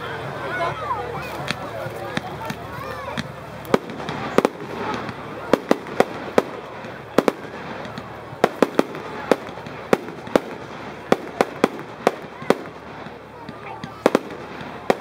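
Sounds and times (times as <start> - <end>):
fireworks bangs: 1.2 - 15.0.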